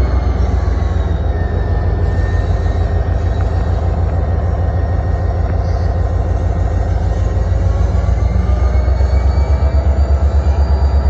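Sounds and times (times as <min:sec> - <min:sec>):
locomotive diesel engine rumbling: 0:00.0 - 0:11.0.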